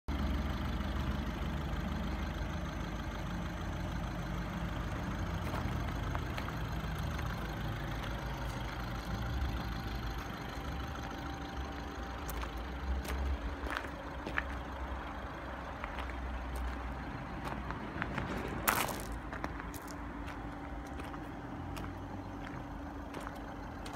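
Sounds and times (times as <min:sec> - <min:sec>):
diesel engine idling: 0:00.1 - 0:23.9.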